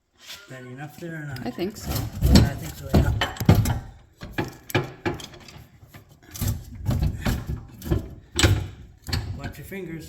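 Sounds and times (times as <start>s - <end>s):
hitch hardware knocking and scraping: 1.4s - 10.0s.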